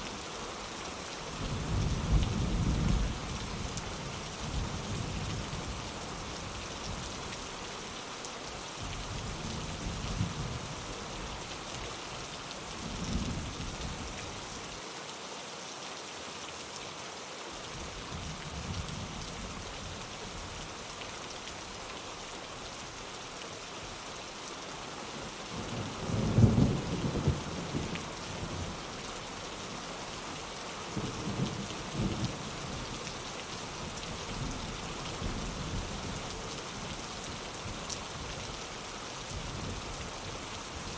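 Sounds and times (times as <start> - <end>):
rain falling on a window: 0.0 - 40.9.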